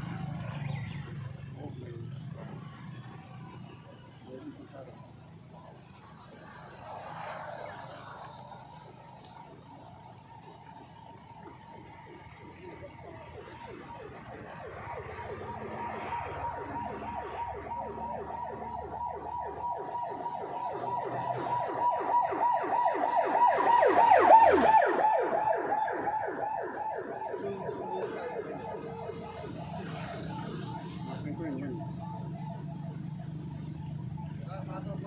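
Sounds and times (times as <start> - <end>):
emergency siren yelping: 2.2 - 35.0.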